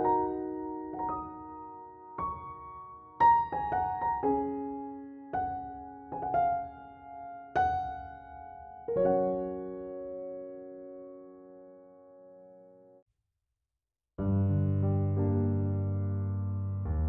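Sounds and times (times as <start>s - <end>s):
gentle piano music: 0.0s - 13.0s, 14.2s - 17.0s.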